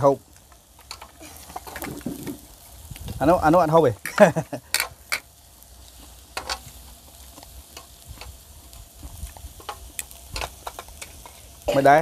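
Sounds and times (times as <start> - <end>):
fish sizzling on grill pan: 0.0 - 12.0.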